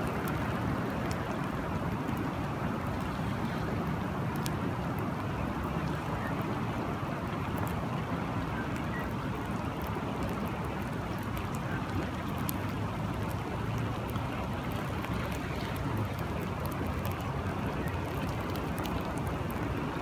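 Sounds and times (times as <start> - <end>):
running water: 0.0 - 20.0
steady rain: 0.0 - 20.0.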